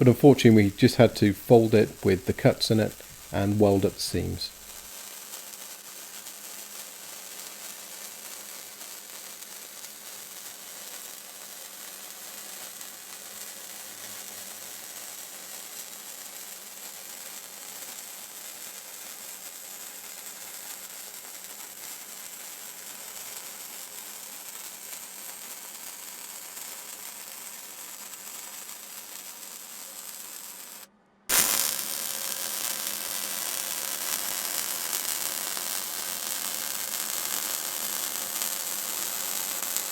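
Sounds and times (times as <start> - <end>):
arc welding hiss: 1.5 - 39.9.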